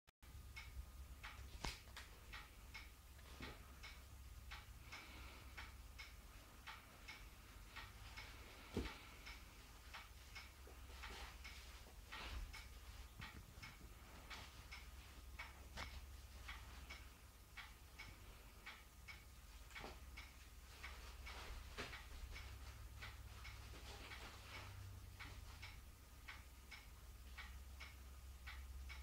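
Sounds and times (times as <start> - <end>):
clock ticking: 0.2 - 29.0.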